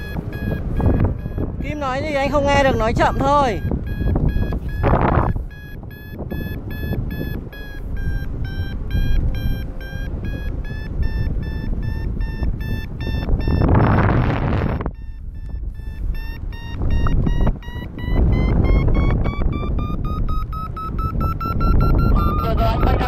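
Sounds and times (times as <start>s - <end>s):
variometer short high beeps: 0.0s - 23.0s
wind rushing over microphone: 0.0s - 23.0s.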